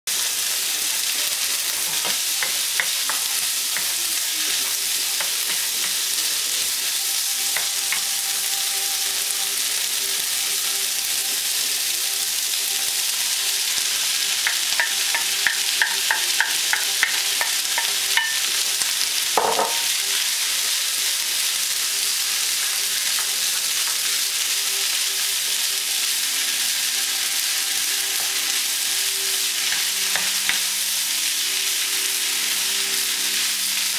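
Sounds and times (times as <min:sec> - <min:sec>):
fried rice sizzling in a wok: 0:00.1 - 0:33.9.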